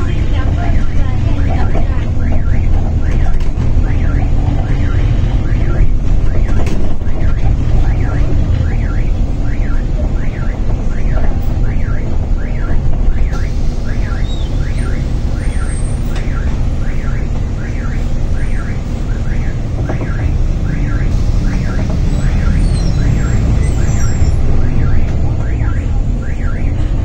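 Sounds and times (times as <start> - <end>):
bus engine and road rumble: 0.0 - 27.0
electronic warning chirp: 0.5 - 26.8.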